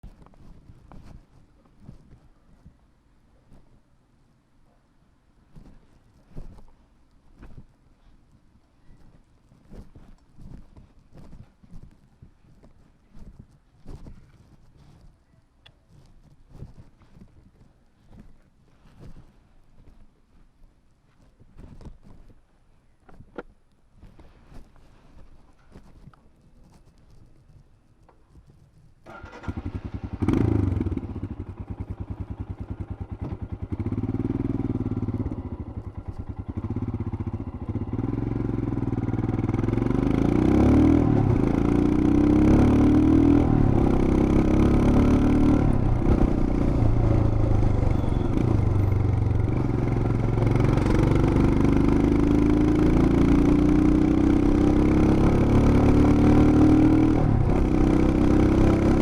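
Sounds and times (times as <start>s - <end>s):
motorcycle engine idling and accelerating: 0.0s - 4.5s, 5.4s - 59.0s.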